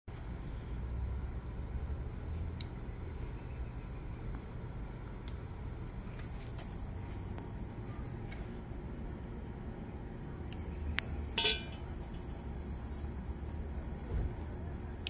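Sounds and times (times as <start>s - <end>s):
low outdoor rumble: 0.1s - 15.0s.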